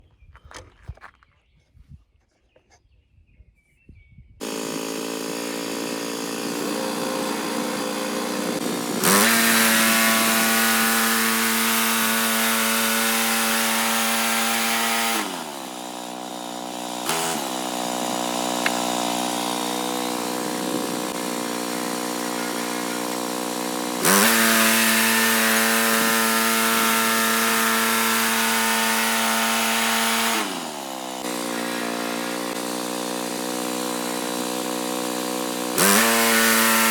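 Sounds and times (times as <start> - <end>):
gas engine starting and revving: 4.4 - 36.9.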